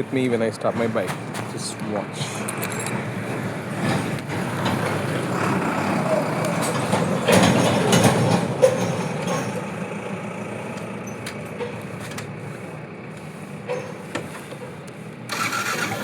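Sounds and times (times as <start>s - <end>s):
motorbike engine idling and revving: 2.2s - 16.0s.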